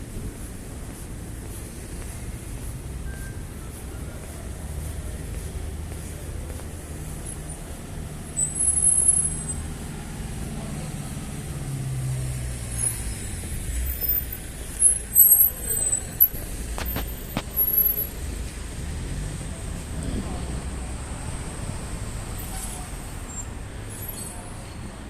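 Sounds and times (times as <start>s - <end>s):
traffic passing: 0.0s - 25.0s.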